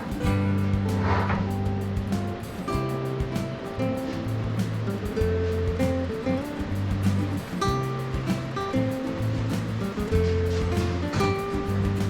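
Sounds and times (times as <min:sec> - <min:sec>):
background music with bass notes: 0:00.0 - 0:12.0.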